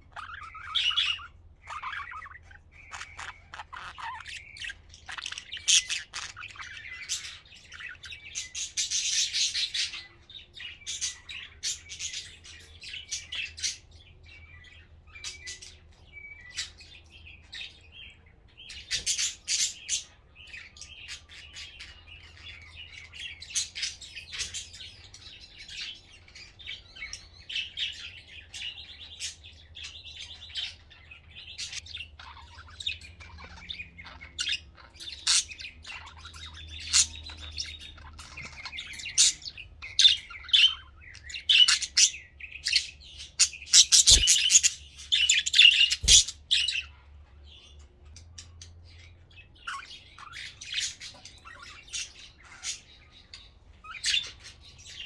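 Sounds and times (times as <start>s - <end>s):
budgerigars chirping: 0.0s - 55.0s.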